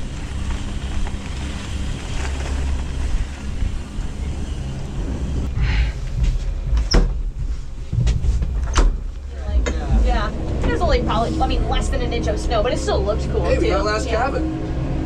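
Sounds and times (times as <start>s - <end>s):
gondola lift rumble: 0.0s - 15.0s.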